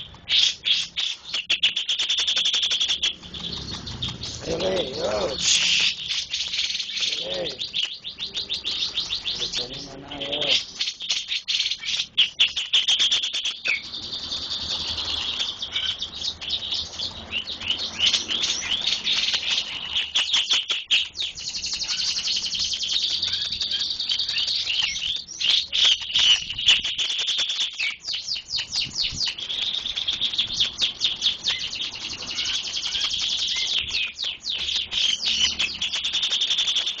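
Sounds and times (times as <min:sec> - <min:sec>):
bird singing rapid high trills: 0:00.0 - 0:37.0.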